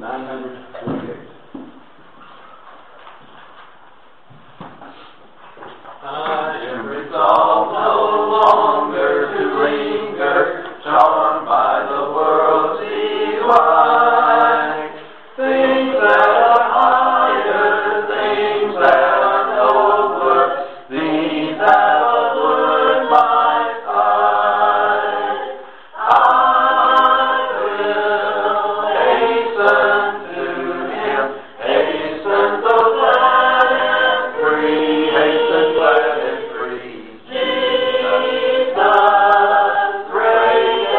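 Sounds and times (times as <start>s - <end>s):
group of voices singing: 6.0s - 40.9s.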